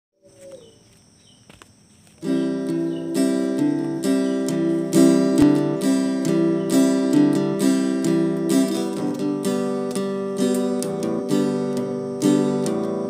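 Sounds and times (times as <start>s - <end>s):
acoustic guitar strumming chords: 2.2s - 13.0s.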